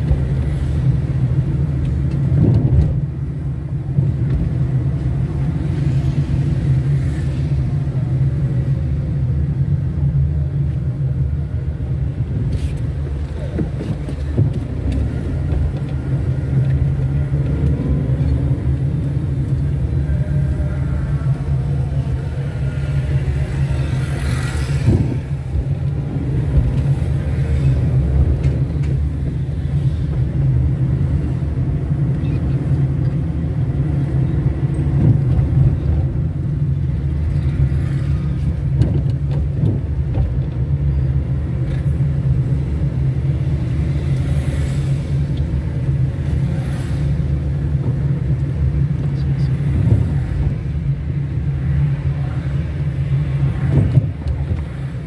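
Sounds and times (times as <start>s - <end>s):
car driving in traffic: 0.0s - 55.0s.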